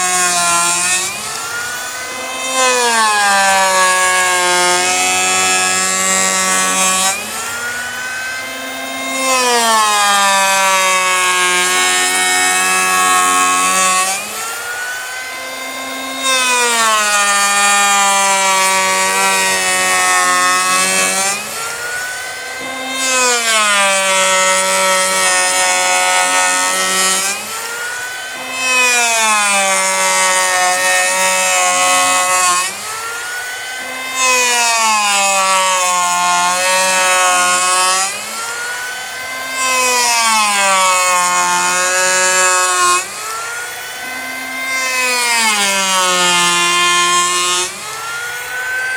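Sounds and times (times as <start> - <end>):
planer motor whine: 0.0 - 48.9
power planer shaving wood: 0.0 - 48.9.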